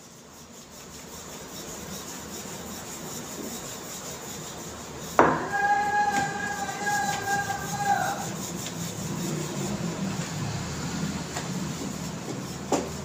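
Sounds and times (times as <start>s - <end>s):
rolling pin rubbing on dough: 0.0s - 13.0s.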